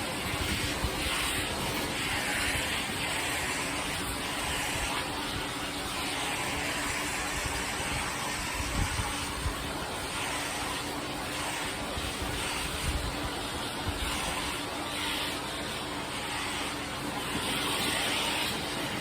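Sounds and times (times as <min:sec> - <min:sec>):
pressure washer engine hum: 0:00.0 - 0:19.0
water jet hissing on concrete: 0:00.0 - 0:19.0.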